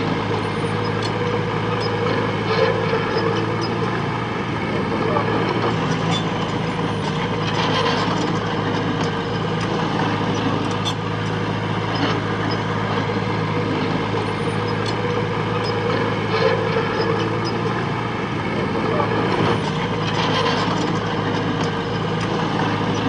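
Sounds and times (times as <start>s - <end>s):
diesel engine running: 0.0s - 23.0s
metallic clanks and squeaks: 0.4s - 4.0s, 5.0s - 13.1s, 13.8s - 17.8s, 18.8s - 23.0s.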